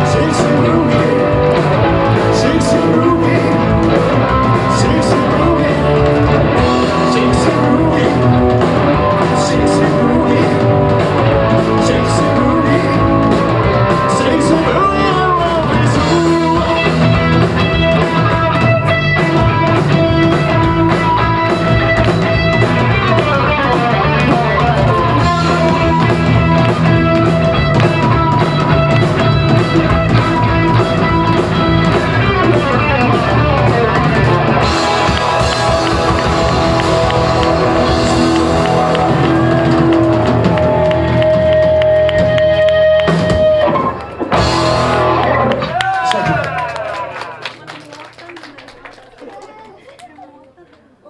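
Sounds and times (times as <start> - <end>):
electric guitar long note: 0.0 - 45.7
rock band playing live: 0.0 - 47.4.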